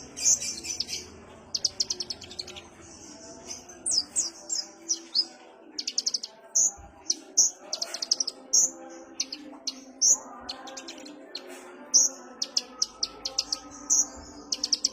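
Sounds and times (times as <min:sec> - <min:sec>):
bird chirps and trills: 0:00.0 - 0:14.9.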